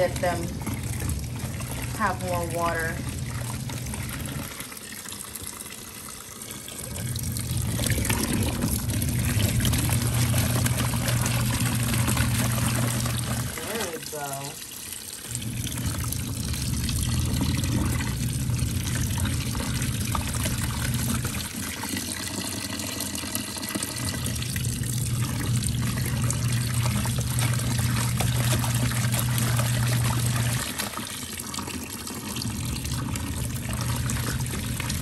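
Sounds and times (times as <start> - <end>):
washing machine motor hum: 0.0 - 35.0
water rushing in tub: 0.0 - 35.0.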